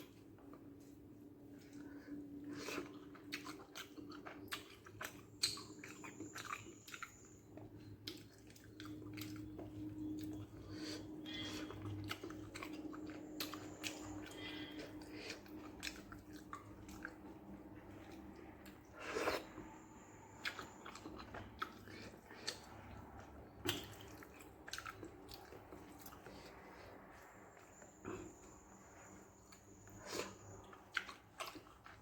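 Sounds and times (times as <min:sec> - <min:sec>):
chewing and wet mouth sounds: 0:00.0 - 0:32.0.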